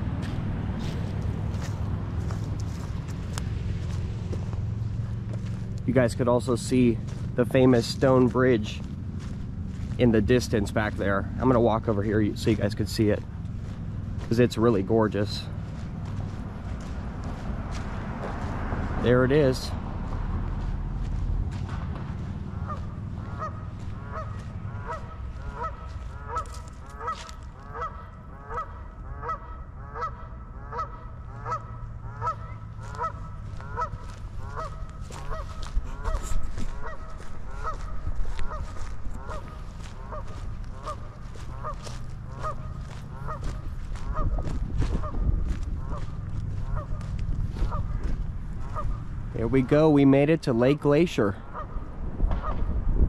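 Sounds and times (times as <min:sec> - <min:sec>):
geese honking: 0:00.8 - 0:52.7.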